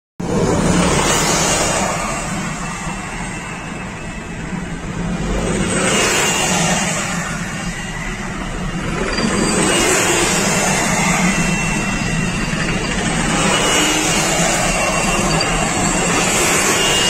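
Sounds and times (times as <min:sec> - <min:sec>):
road and engine noise inside car: 0:00.2 - 0:17.0.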